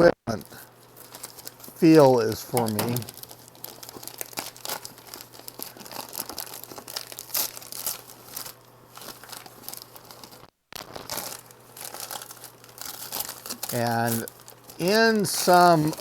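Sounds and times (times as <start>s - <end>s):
packing paper crumpling and tearing: 0.4s - 16.0s.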